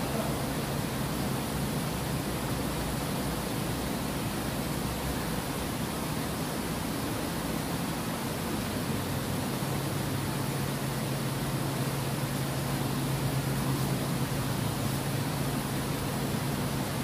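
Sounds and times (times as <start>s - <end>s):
water rushing over a weir: 0.0s - 17.0s.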